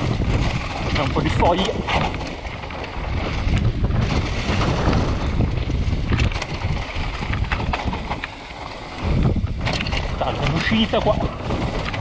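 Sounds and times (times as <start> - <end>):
bike rattling over bumps: 0.0 - 12.0
wind noise on microphone: 0.0 - 12.0.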